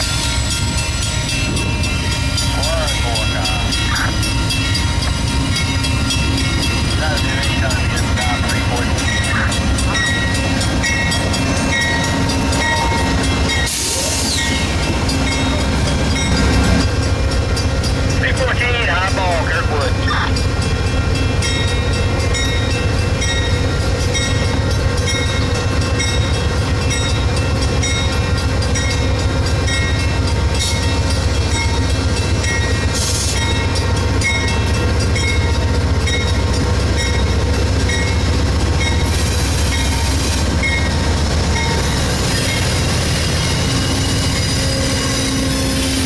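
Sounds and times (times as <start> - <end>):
diesel locomotive engine rumbling: 0.0 - 46.0.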